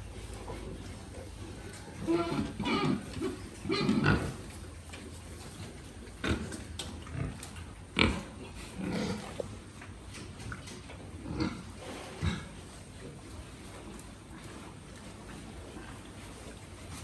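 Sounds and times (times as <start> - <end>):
pigs grunting: 0.0 - 17.0.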